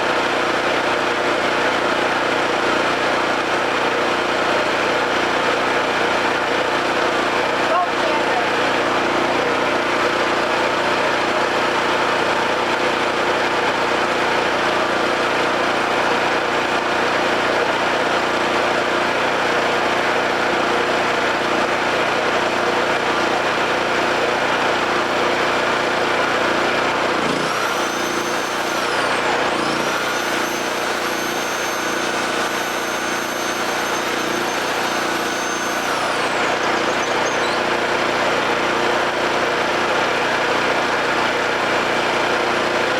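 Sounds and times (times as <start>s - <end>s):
generator engine running: 0.0s - 42.9s.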